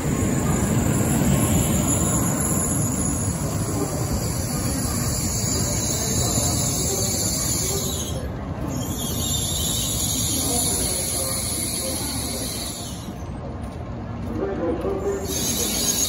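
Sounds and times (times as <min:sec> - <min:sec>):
train rolling slowly: 0:00.0 - 0:16.0.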